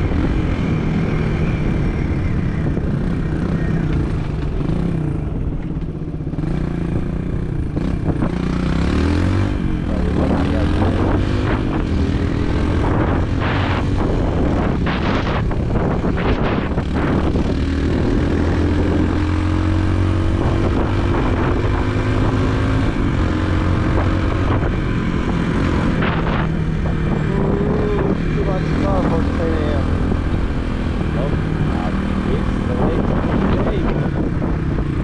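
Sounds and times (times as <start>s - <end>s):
motorbike engine running: 2.8s - 35.0s.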